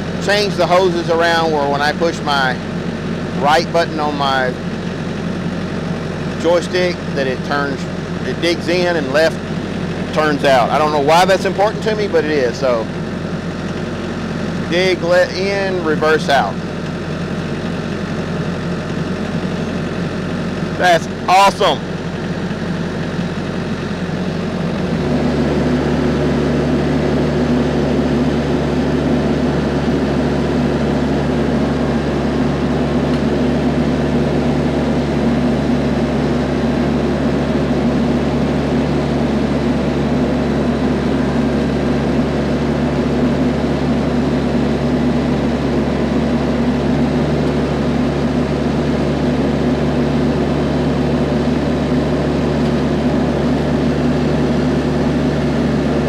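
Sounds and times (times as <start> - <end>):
hydraulic auger drilling: 0.0 - 56.0
tractor diesel engine running: 0.0 - 56.0.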